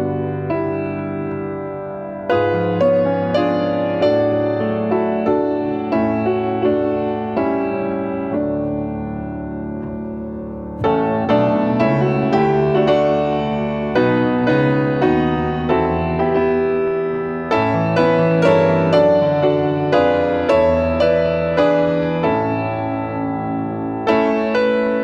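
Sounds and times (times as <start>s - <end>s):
solo piano chords: 0.0s - 25.0s.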